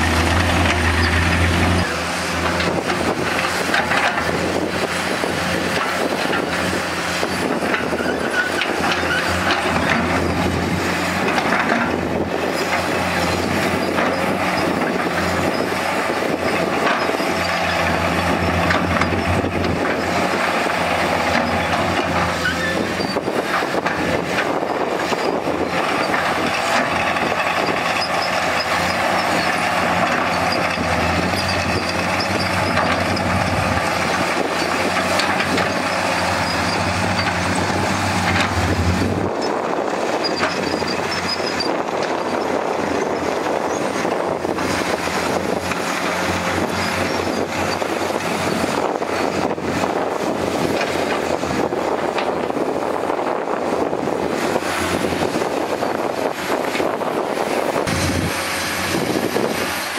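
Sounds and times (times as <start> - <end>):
excavator diesel engine: 0.0 - 59.9
heavy earthmoving machinery: 0.0 - 59.9.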